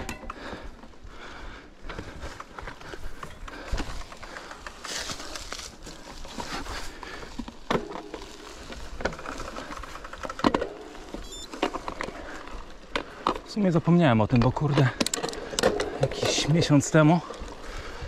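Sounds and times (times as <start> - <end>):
bike rattles and knocks over bumps: 0.0 - 18.0
bike tyres crunching on dirt: 0.4 - 18.0.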